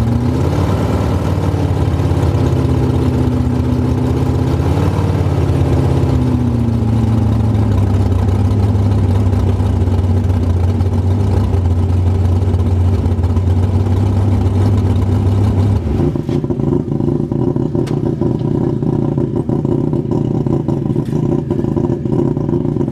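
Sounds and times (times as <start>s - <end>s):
higher rough engine sound: 0.0s - 22.9s
drag car engine idling: 1.0s - 22.9s.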